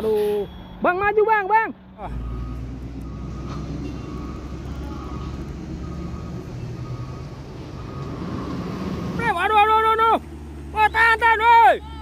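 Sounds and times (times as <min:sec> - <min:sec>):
truck engines rumbling: 0:00.0 - 0:12.0.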